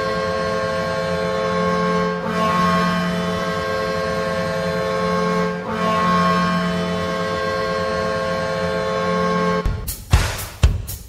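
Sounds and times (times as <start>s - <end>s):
goal horn blowing: 0.0s - 9.7s.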